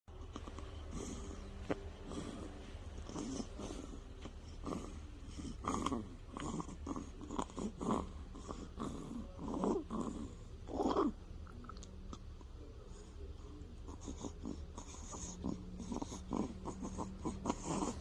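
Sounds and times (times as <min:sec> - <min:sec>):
baby snoring: 0:00.2 - 0:11.2, 0:12.8 - 0:18.0.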